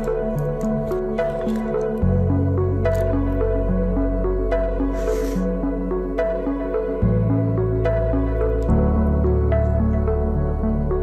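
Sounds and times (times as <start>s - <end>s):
soft new-age instrumental music: 0.0s - 11.0s.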